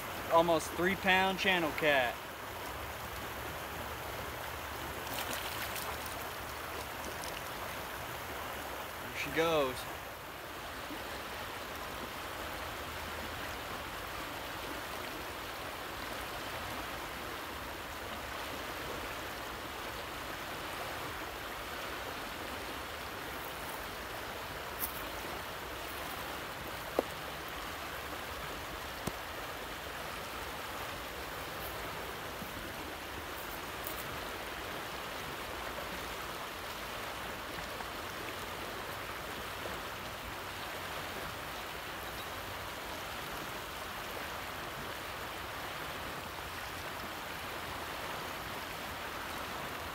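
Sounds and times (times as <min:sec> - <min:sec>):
fast river current rushing: 0:00.0 - 0:49.9.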